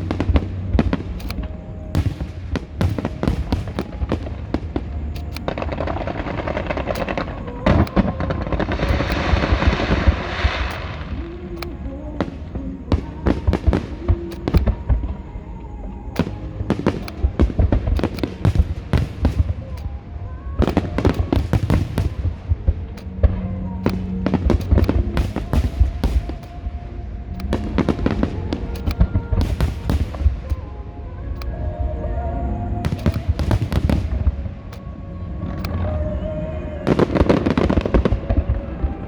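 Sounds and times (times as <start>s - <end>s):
fireworks bursts and crackling bangs: 0.0s - 30.8s, 32.8s - 39.0s.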